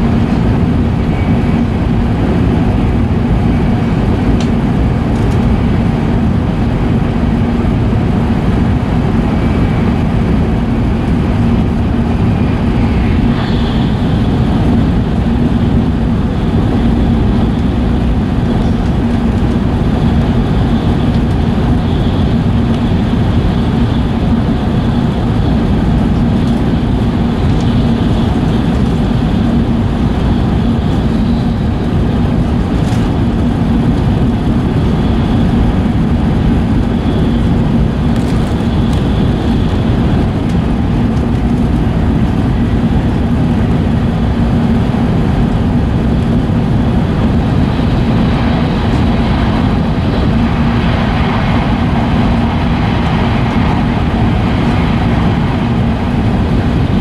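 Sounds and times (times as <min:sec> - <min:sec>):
constant low hum: 0:00.0 - 0:57.0
train running noise inside car: 0:00.0 - 0:57.0.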